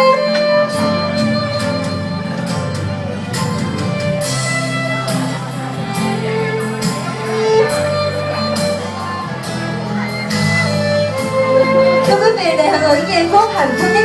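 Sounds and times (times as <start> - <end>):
background music with beat: 0.0 - 14.0.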